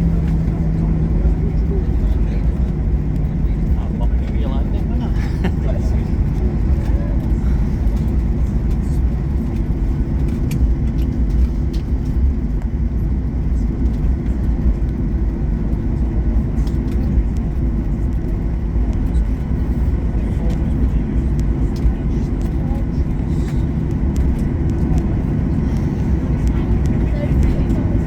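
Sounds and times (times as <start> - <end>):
aircraft cabin rumble: 0.0 - 28.0.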